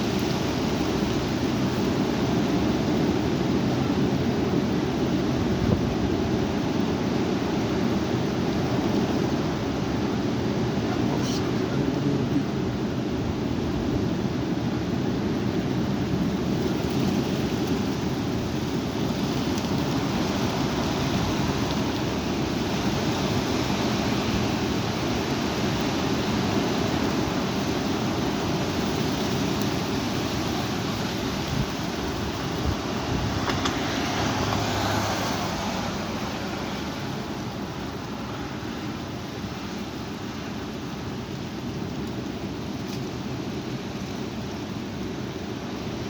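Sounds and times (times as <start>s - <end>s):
strong wind on microphone: 0.0s - 39.9s.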